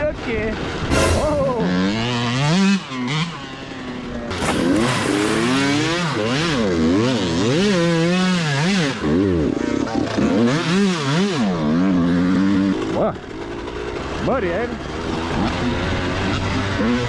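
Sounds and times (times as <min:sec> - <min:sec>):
dirt bike engine revving: 0:00.1 - 0:17.0.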